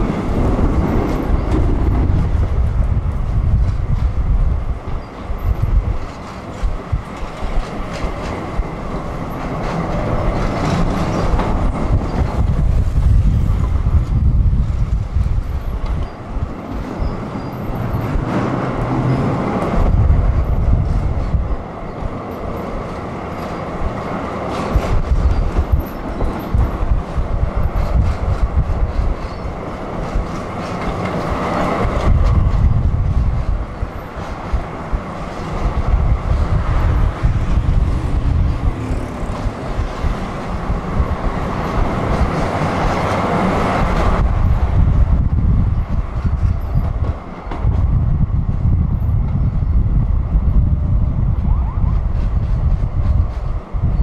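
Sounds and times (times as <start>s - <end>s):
rail clicks: 0.0s - 54.0s
tram wheels rumbling on rails: 0.0s - 54.0s.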